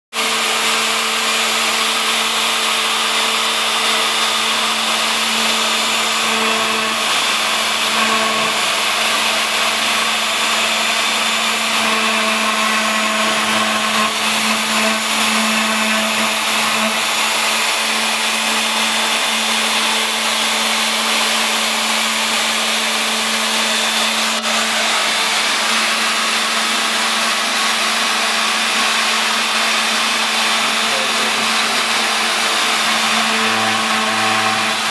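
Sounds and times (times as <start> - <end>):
spindle motor humming: 0.3 - 34.9.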